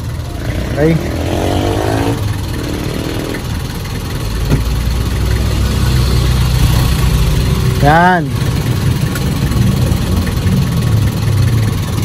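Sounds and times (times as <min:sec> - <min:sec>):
van engine running: 0:00.0 - 0:12.0.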